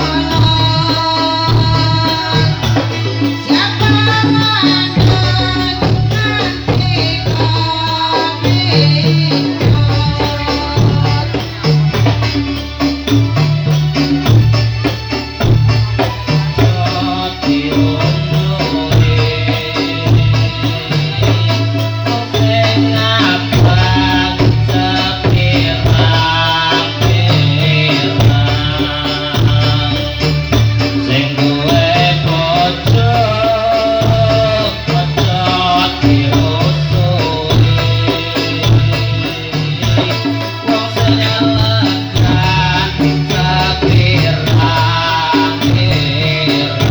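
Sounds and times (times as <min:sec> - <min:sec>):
person singing: 0:00.0 - 0:14.2, 0:15.8 - 0:46.9
drums beating: 0:00.0 - 0:46.9.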